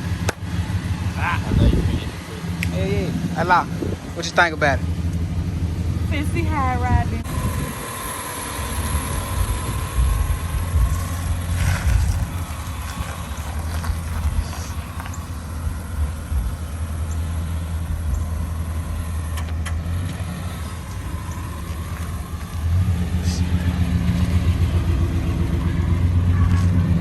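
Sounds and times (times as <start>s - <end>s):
car engine low rumble: 0.0s - 27.0s
road noise: 0.0s - 27.0s.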